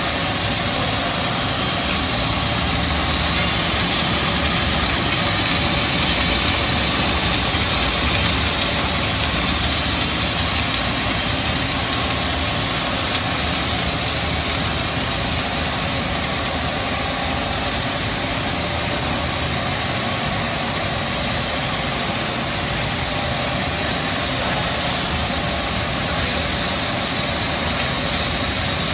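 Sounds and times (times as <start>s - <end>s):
production line machinery: 0.0s - 28.9s.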